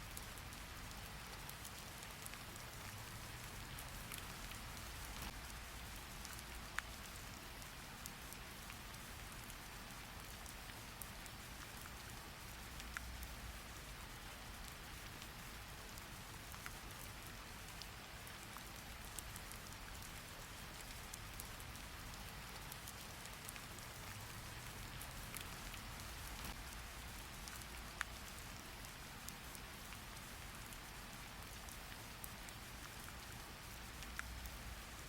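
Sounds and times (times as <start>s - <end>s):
steady rain hiss: 0.0s - 35.0s
sharp drip-like clicks: 0.1s - 35.0s.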